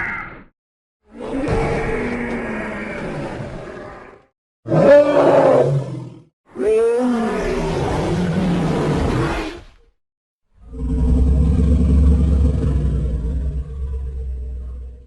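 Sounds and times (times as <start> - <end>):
dinosaur roars: 1.1 - 9.8, 10.6 - 15.0.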